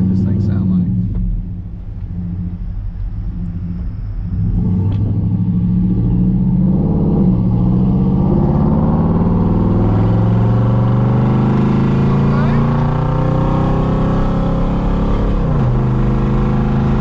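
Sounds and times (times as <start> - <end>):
truck engine accelerating: 0.0 - 17.0.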